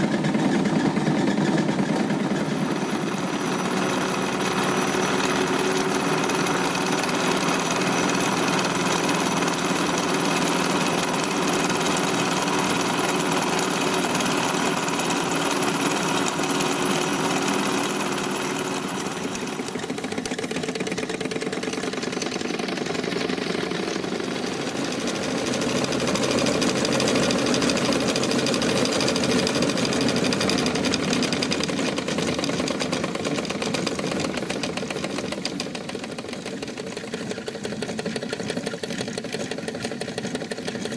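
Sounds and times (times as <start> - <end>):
miniature steam engine clatter: 0.0 - 40.9.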